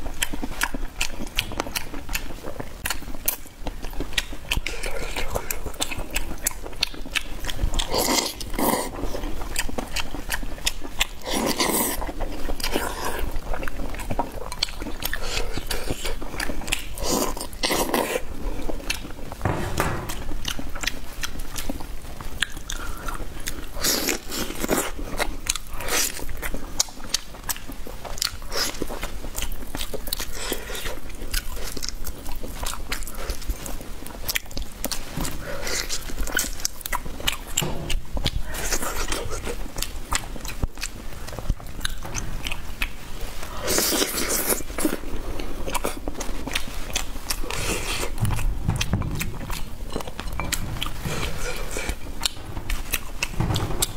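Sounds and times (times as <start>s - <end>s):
person chewing crunchy food: 0.0s - 19.5s, 20.4s - 53.9s.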